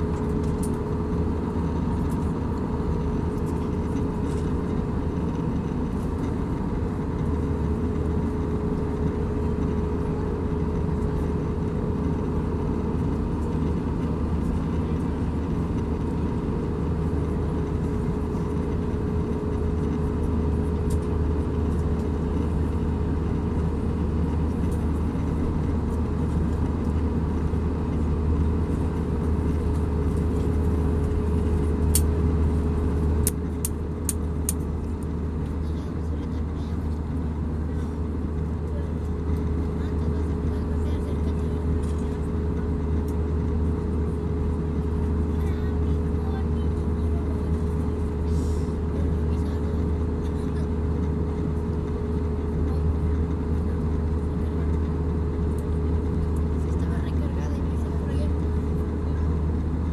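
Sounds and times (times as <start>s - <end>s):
airplane engines and airflow rumble: 0.0s - 59.9s
constant cabin hum: 0.0s - 59.9s.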